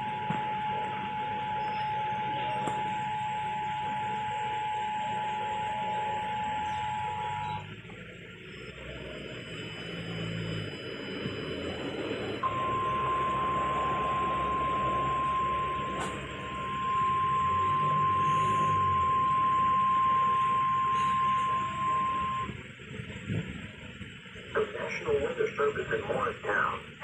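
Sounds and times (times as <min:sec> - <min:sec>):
two-tone attention signal: 0:00.0 - 0:07.8, 0:08.6 - 0:22.6
radio hiss: 0:00.1 - 0:27.0.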